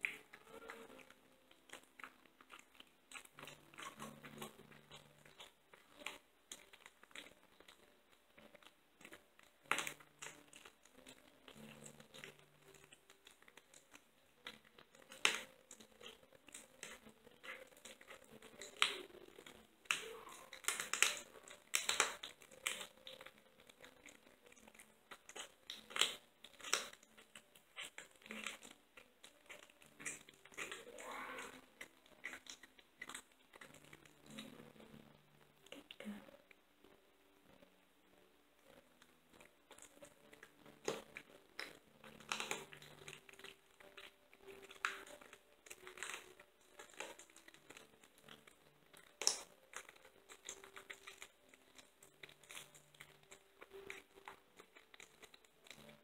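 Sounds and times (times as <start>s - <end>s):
kitten chewing and licking meat: 0.0s - 56.0s
teeth clicking: 0.0s - 56.0s.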